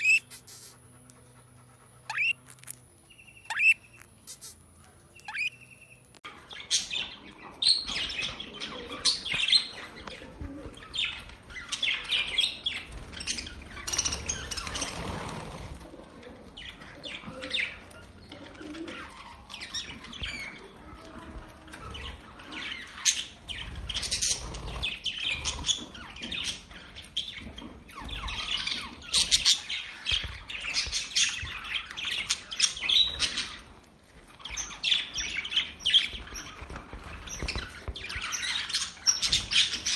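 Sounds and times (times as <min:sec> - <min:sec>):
budgerigars chirping and chattering: 0:00.0 - 0:00.8, 0:02.1 - 0:04.6, 0:05.2 - 0:15.6, 0:16.4 - 0:39.9.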